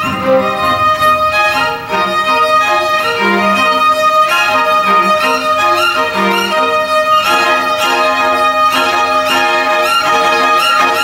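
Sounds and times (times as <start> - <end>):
string orchestra playing: 0.0 - 11.0.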